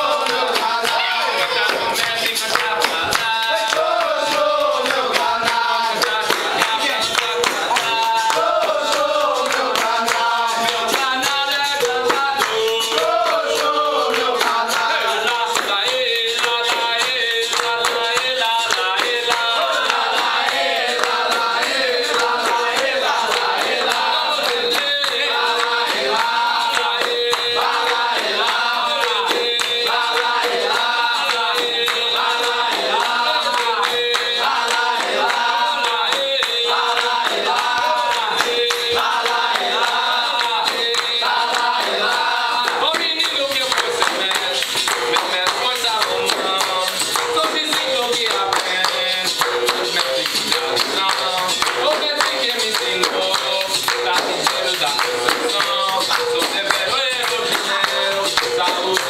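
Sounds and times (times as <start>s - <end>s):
group singing a chorus: 0.0s - 59.0s
hand clapping: 0.0s - 59.0s
pandeiro: 0.0s - 59.0s.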